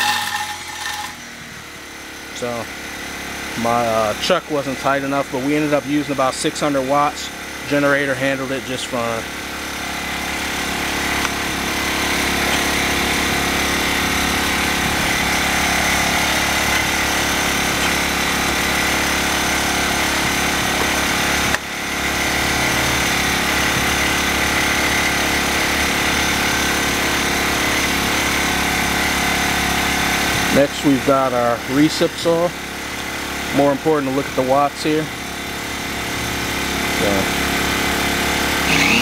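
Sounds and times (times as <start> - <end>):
generator engine running: 0.0 - 39.0.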